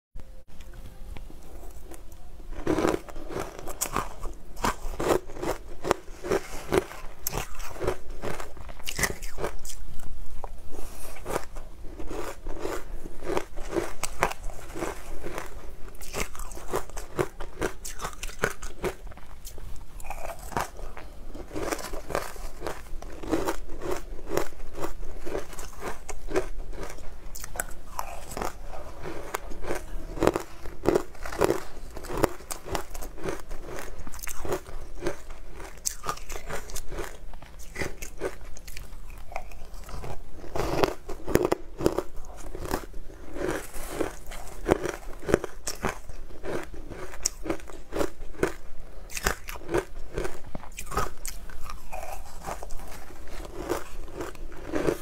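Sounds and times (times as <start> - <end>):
person crunching frozen food: 1.7 - 55.0.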